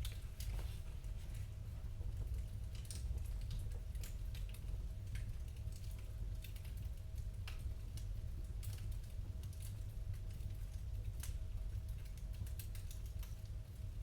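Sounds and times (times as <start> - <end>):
wood fire crackling and popping: 2.2 - 14.0.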